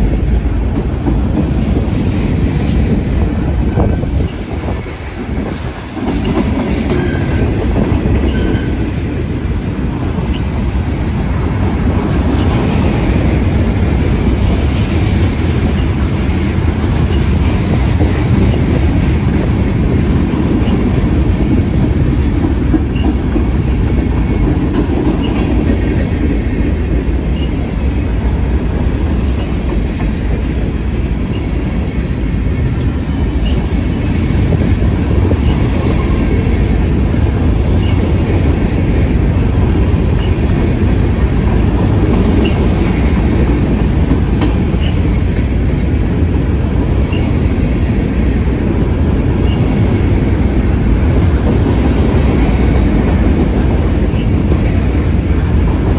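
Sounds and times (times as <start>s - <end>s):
train wheels rumbling and clacking: 0.0s - 55.9s.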